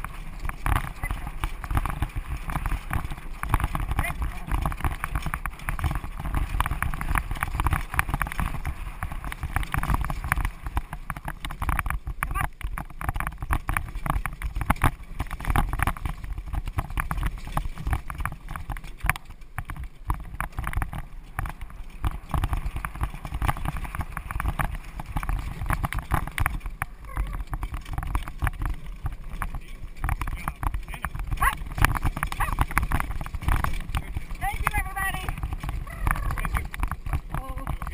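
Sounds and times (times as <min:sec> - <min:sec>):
horse carriage clatter: 0:00.0 - 0:37.9
steady low rumble: 0:00.0 - 0:37.9.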